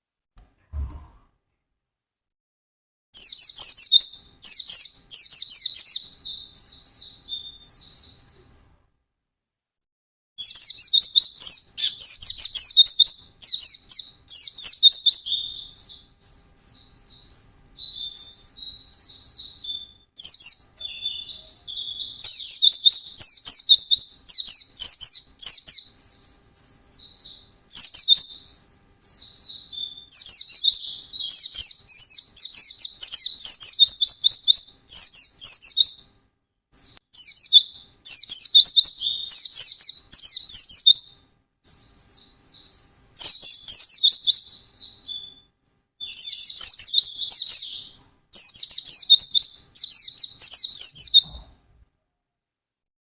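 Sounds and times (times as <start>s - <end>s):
bird twittering song: 3.2s - 8.7s, 10.4s - 51.6s.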